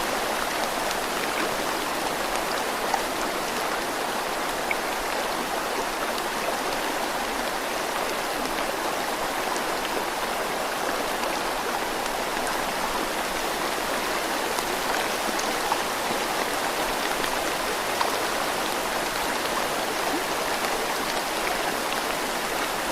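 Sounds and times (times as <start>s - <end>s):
flowing water rushing: 0.0s - 22.9s.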